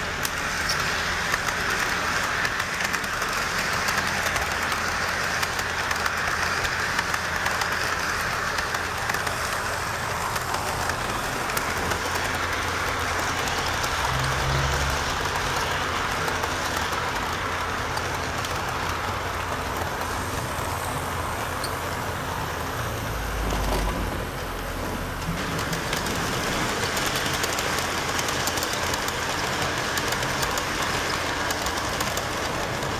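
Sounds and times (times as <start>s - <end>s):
model train motors whirring: 0.0s - 32.9s
wheels rumbling on rails: 0.0s - 32.9s.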